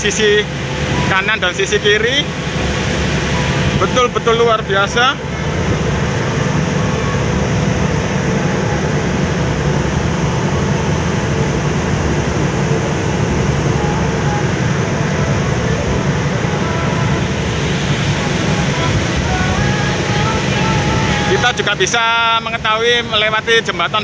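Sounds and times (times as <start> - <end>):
ship engines rumbling: 0.0 - 24.0
water churning: 0.0 - 24.0.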